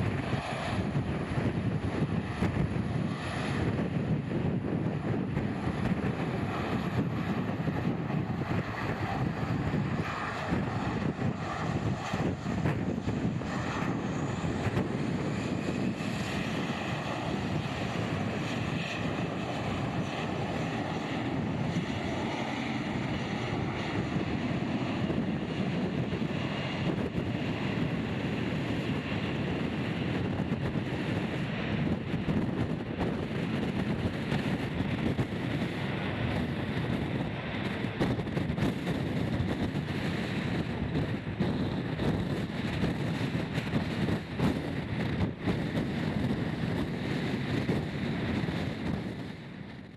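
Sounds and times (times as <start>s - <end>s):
jet airliner engine: 0.0s - 49.9s
strong wind gusting on microphone: 0.0s - 49.9s.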